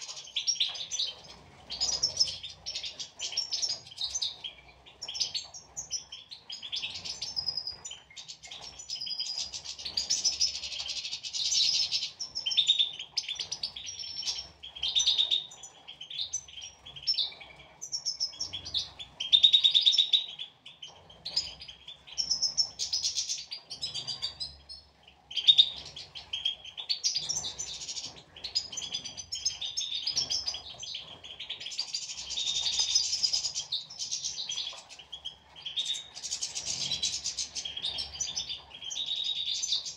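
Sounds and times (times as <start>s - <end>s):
finches twittering and singing: 0.0s - 39.9s.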